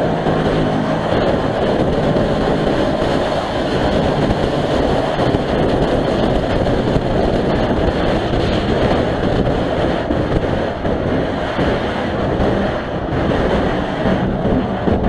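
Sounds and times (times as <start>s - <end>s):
off-road vehicle engine running: 0.0s - 15.0s
wind noise on microphone: 0.0s - 15.0s.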